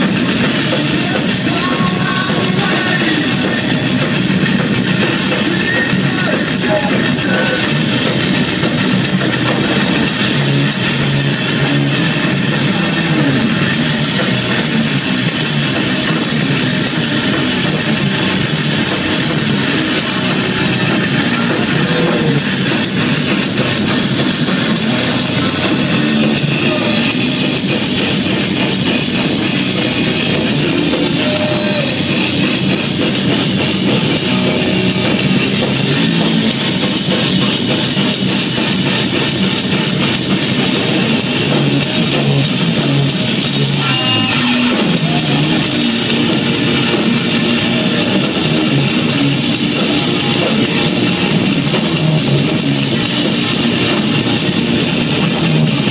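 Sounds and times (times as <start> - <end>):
heavy rock band playing: 0.0 - 55.9.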